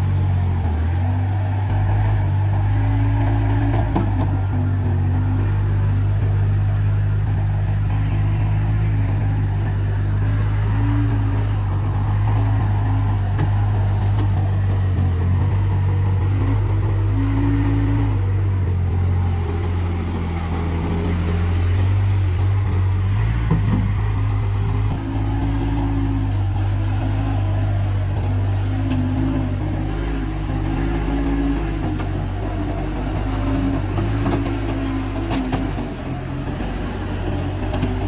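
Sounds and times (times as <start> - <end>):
diesel loader engine running: 0.0 - 38.0.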